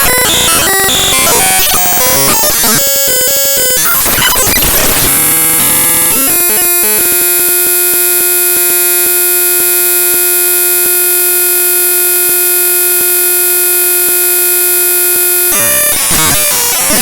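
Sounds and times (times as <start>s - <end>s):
loud buzzing drone of fixed tones: 0.0s - 17.0s.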